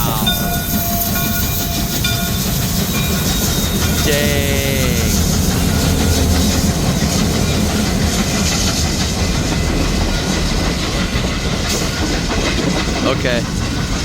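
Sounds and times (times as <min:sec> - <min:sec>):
steam train rumbling past: 0:00.0 - 0:14.0.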